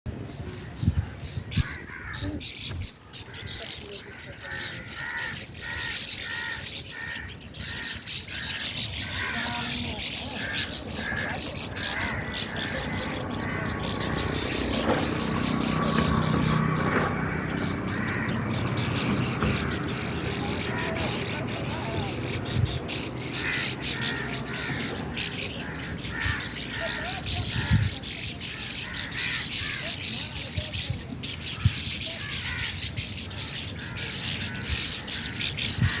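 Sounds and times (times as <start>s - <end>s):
swallows chirping: 0.1s - 36.0s.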